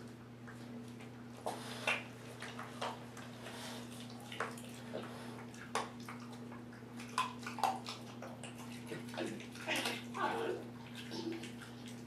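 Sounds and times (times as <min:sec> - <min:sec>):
puppy crunching bones: 0:01.8 - 0:12.0.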